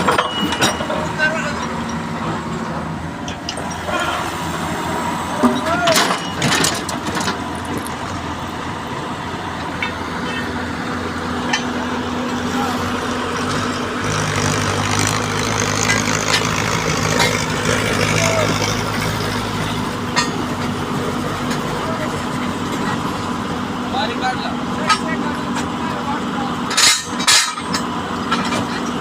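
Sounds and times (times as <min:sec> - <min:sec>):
heavy machine engine running: 0:00.0 - 0:29.0.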